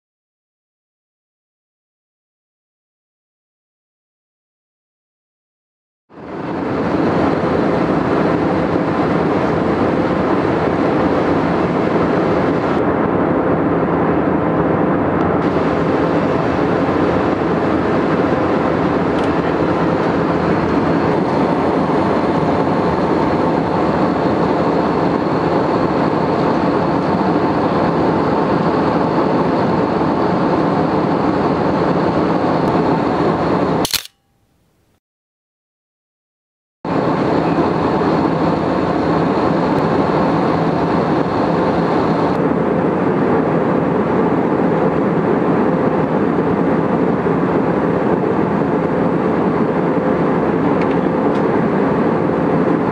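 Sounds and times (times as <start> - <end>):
airplane cabin roar: 6.1 - 34.1, 36.9 - 52.9.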